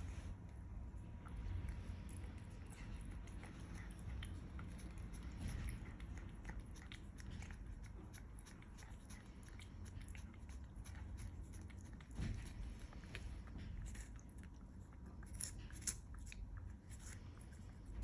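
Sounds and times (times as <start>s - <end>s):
cat chewing food with crunching: 0.0s - 18.0s.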